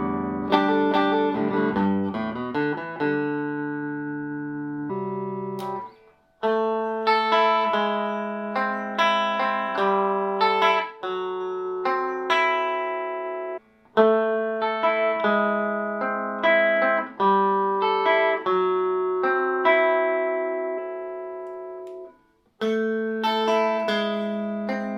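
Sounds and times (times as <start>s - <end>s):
clean electric guitar: 0.0s - 24.9s.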